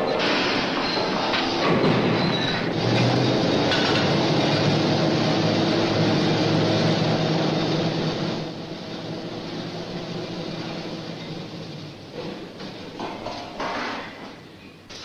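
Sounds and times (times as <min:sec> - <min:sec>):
drilling rig machinery din: 0:00.0 - 0:13.6
machinery clanks: 0:00.0 - 0:15.0.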